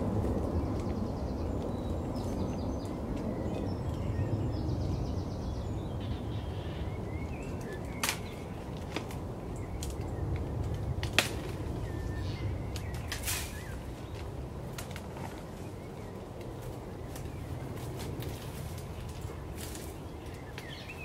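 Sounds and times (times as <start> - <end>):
small birds chirping and trilling: 0.0 - 21.0
steady low rumble: 0.0 - 21.0.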